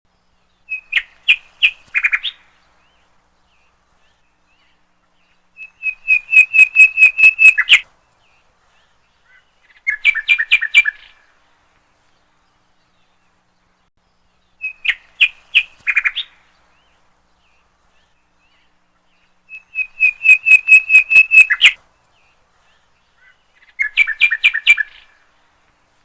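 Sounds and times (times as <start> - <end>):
bird chirping: 0.1 - 25.5.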